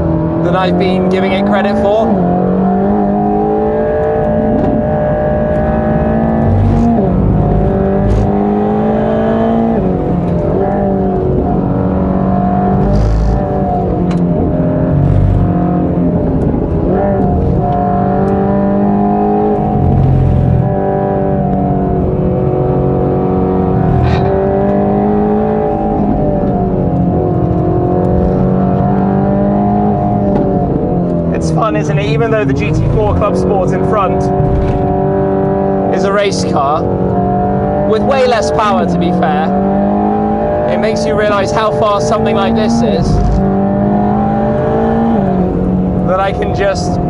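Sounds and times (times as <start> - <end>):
car engine accelerating: 0.0 - 47.0
exhaust cracks: 0.0 - 47.0.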